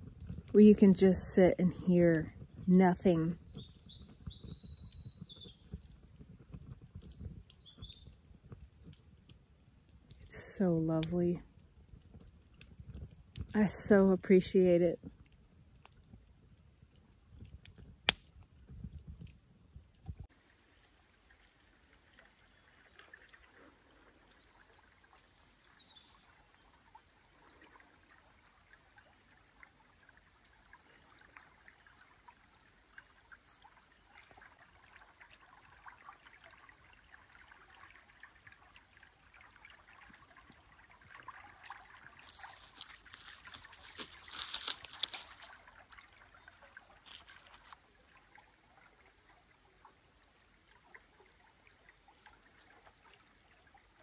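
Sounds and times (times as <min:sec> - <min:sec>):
river water trickling: 0:00.0 - 0:54.0.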